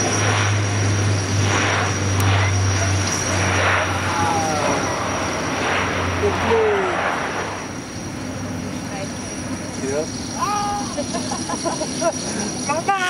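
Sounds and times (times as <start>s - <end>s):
turboprop plane taking off: 0.0s - 12.8s.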